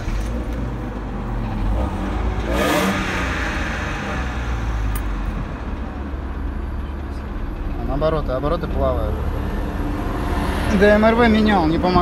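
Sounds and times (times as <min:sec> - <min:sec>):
car engine idling and misfiring: 0:00.0 - 0:12.0.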